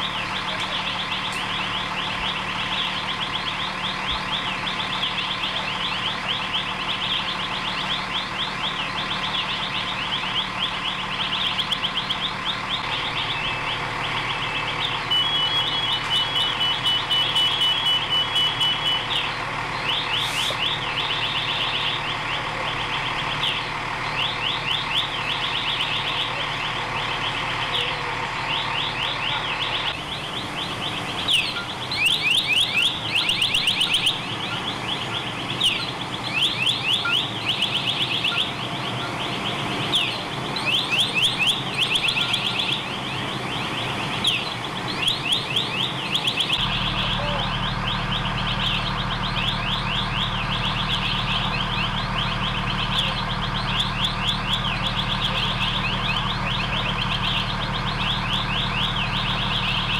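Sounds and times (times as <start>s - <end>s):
electronic alarm chirping: 0.0s - 59.9s
low engine hum: 0.0s - 59.9s.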